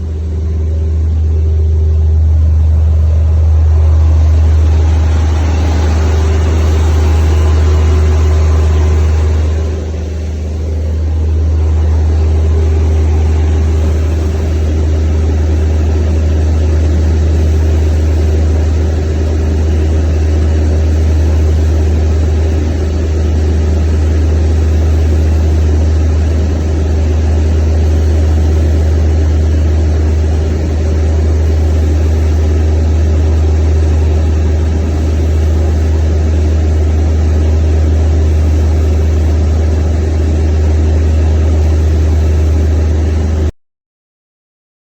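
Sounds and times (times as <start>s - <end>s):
engine droning steadily: 0.0s - 43.5s.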